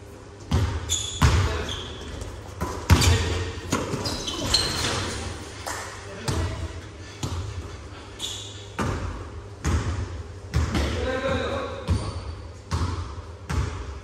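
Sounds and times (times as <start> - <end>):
basketball bouncing on gym floor: 0.4 - 5.3, 6.2 - 7.7, 8.8 - 14.0.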